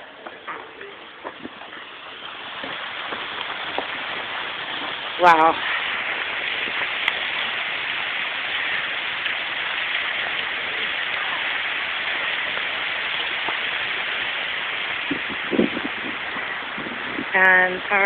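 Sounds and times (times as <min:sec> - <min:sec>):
hailstones striking ground: 0:00.0 - 0:18.0.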